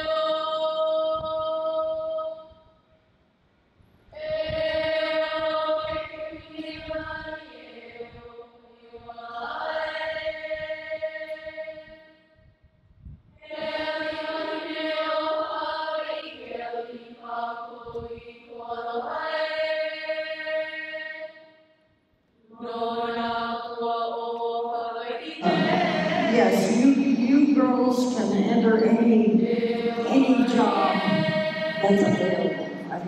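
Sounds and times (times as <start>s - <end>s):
children and adults singing: 0.0s - 2.4s, 4.2s - 12.0s, 13.4s - 21.4s, 22.5s - 33.0s.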